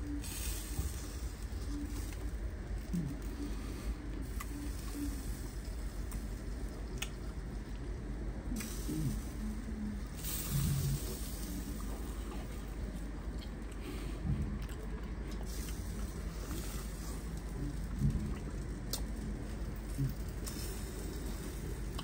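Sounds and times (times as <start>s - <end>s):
pot bubbling on stove: 0.0s - 13.7s, 14.4s - 22.0s
steady low hum: 0.0s - 22.0s.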